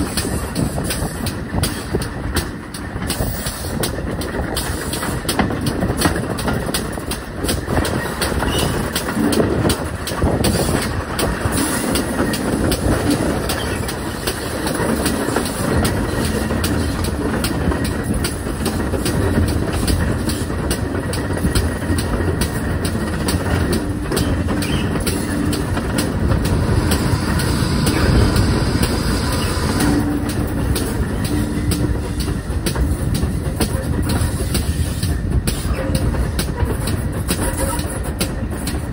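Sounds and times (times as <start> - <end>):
steam train rumbling: 0.0 - 38.9
wheels clicking over rail joints: 0.0 - 38.9.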